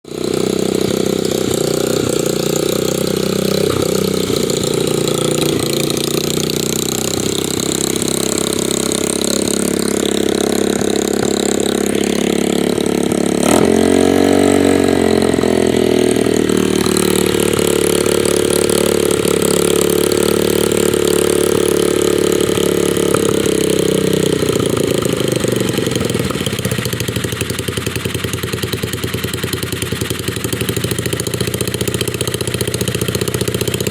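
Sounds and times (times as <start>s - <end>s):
dirt bike engine idling: 0.0s - 33.9s.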